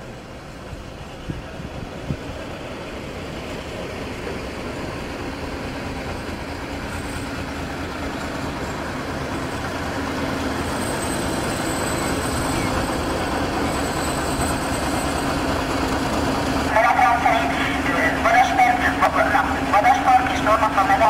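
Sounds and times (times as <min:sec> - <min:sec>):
diesel locomotive approaching: 0:00.0 - 0:21.0
engine hum: 0:00.0 - 0:21.0.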